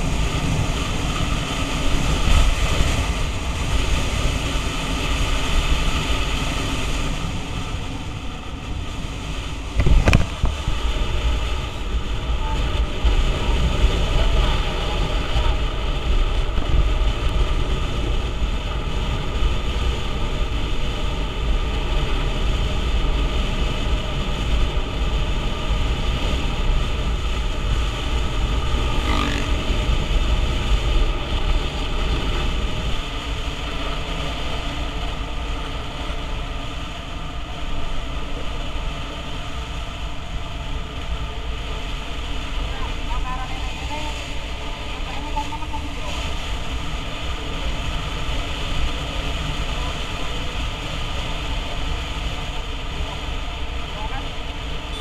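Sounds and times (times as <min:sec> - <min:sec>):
scooter engine and road noise: 0:00.0 - 0:55.0
wind buffeting microphone: 0:00.0 - 0:55.0.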